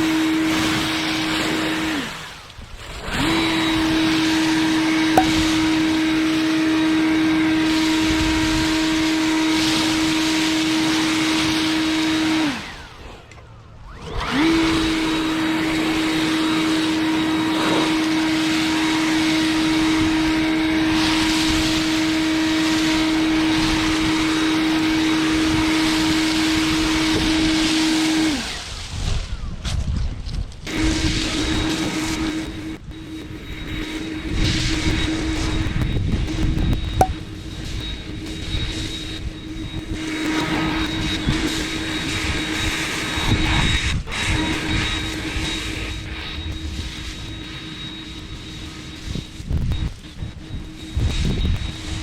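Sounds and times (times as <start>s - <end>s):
leaf blower whining: 0.0s - 28.9s, 37.0s - 52.0s.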